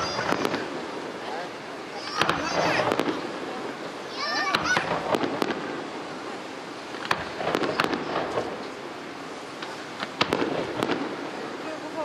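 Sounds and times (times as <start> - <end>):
firework bangs and crackles: 0.0 - 12.0
steady background noise: 0.0 - 12.0.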